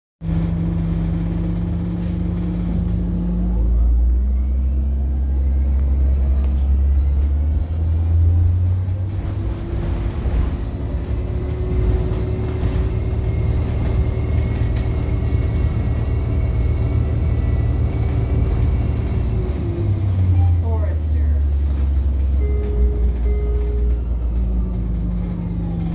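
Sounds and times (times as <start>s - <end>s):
bus engine rumble: 0.2s - 25.9s.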